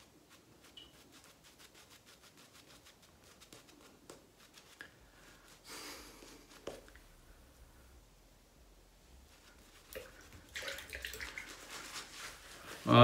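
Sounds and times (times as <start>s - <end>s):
shaving brush swishing on face: 0.0s - 7.0s, 9.1s - 13.0s.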